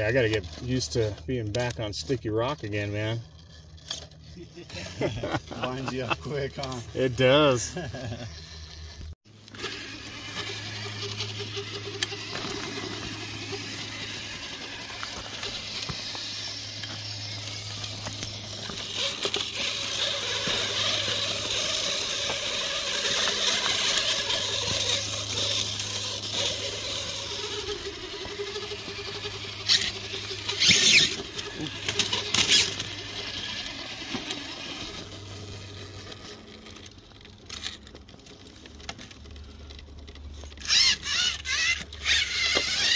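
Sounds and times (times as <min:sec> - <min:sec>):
electric motor and gears whining: 0:00.0 - 0:42.9.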